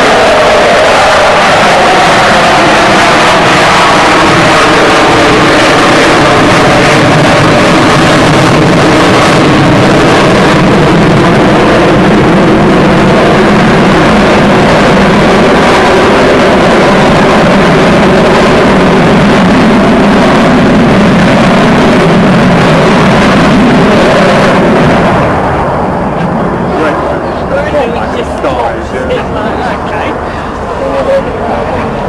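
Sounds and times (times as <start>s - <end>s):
droning tones: 0.0s - 32.0s
jet engine roar: 0.0s - 32.0s.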